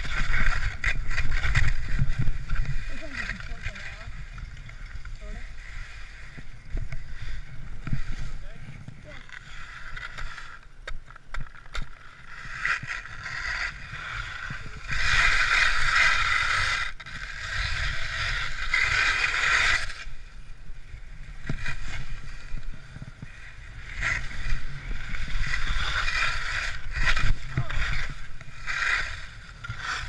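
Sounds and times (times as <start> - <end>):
skis scraping on icy snow: 0.0 - 30.0.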